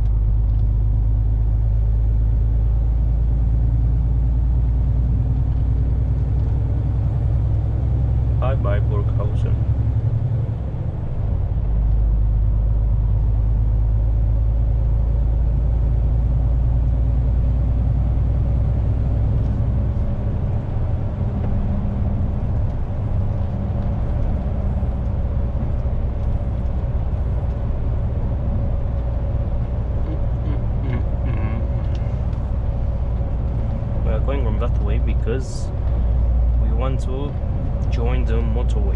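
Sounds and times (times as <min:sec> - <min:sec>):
road noise: 0:00.0 - 0:38.9
truck engine rumble: 0:00.0 - 0:38.9.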